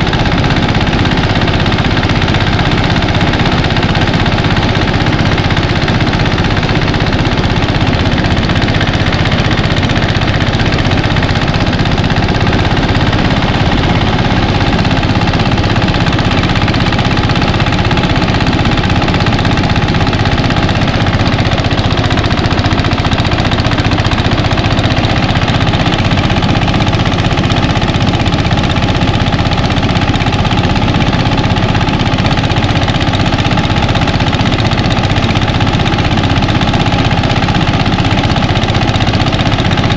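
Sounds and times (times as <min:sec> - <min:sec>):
rice thresher running: 0:00.0 - 0:39.9.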